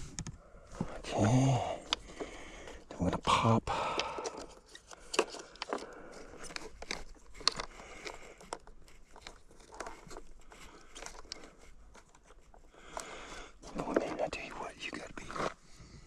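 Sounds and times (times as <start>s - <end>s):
small plastic clicks and rustles: 1.7s - 15.6s.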